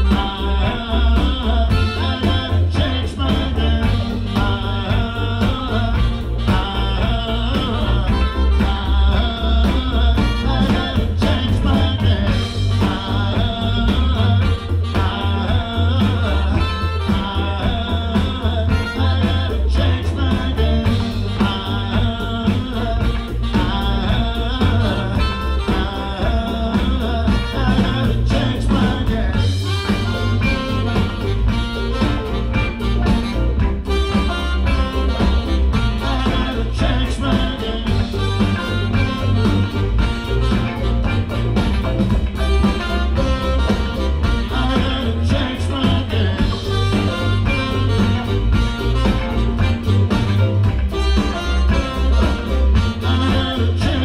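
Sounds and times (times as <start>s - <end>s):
live blues soul band: 0.0s - 54.0s
person singing: 0.0s - 54.0s
steady drum beat: 0.0s - 54.0s
trumpet and saxophones: 0.0s - 54.0s.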